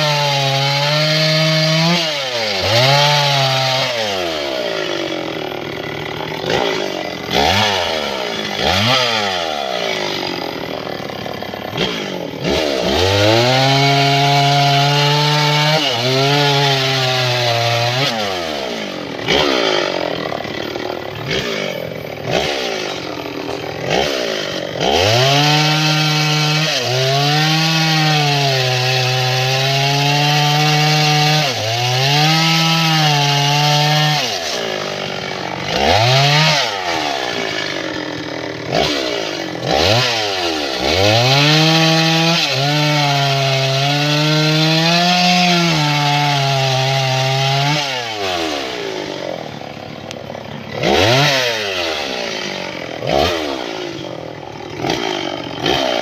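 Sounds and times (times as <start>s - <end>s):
chainsaw cutting logs: 0.0s - 56.0s
chainsaw engine revving: 0.0s - 56.0s.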